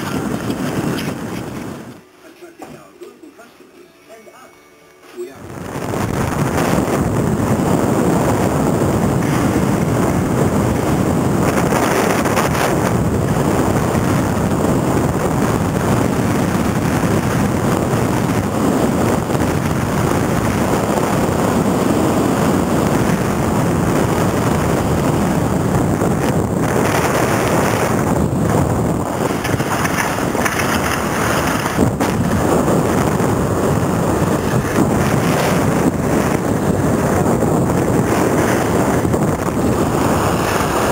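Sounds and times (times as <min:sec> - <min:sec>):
wind rushing over microphone: 0:00.0 - 0:02.1, 0:05.4 - 0:40.9.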